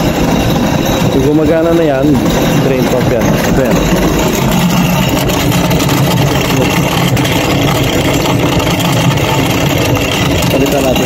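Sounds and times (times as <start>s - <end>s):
drain pump humming loudly: 0.0s - 11.0s.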